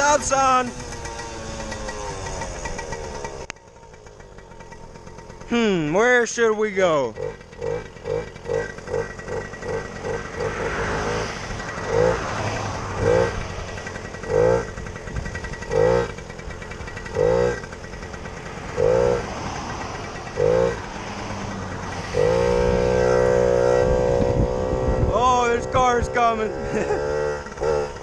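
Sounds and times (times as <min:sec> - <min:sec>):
small motorbike engine revving: 0:00.0 - 0:28.0.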